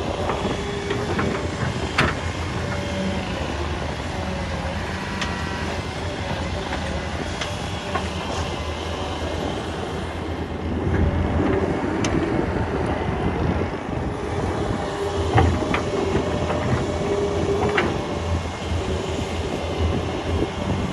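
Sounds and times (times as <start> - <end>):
excavator diesel engine running: 0.0 - 20.9
hydraulic whine: 0.0 - 20.9.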